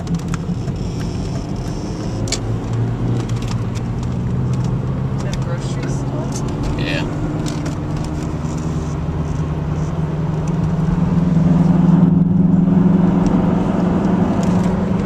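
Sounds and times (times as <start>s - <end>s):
car engine drone: 0.0s - 15.0s
tyre road noise: 0.0s - 15.0s.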